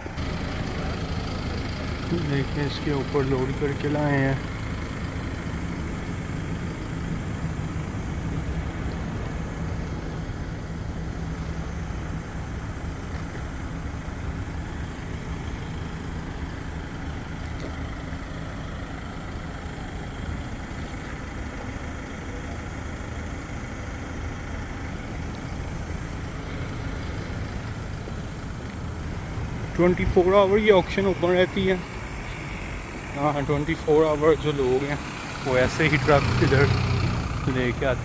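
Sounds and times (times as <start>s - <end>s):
truck engine humming: 0.0s - 38.0s.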